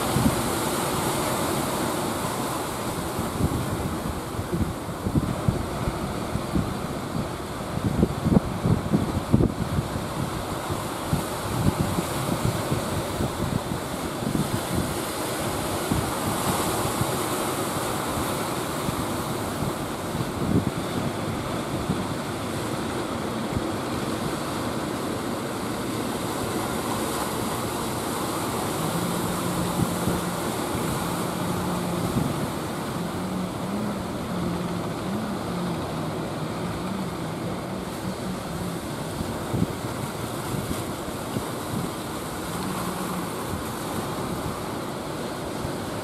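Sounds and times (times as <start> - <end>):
boat engine droning: 0.0 - 46.0
wind buffeting microphone: 0.0 - 46.0.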